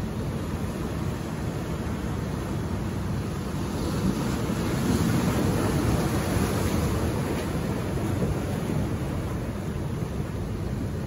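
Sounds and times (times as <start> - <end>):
ocean surf washing over rocks: 0.0 - 11.0.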